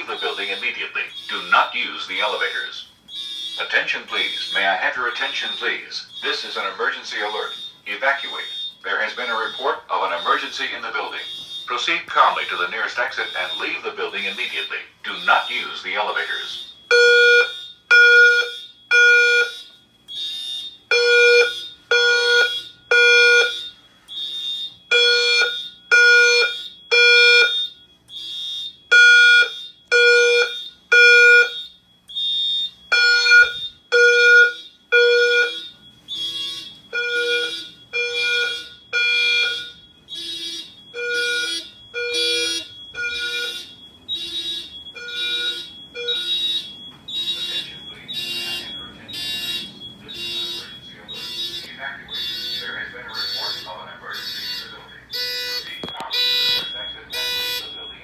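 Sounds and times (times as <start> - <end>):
fire alarm horns: 0.0 - 58.0
lower-pitched alarm horns: 0.0 - 58.0.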